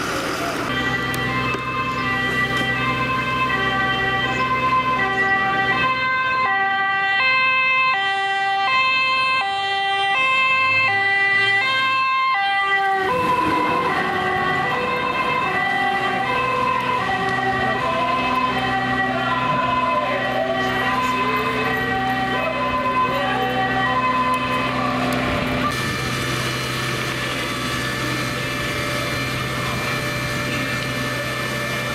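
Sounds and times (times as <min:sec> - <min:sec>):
truck engine hum: 0:00.0 - 0:31.9
two-tone fire engine siren: 0:00.6 - 0:31.9.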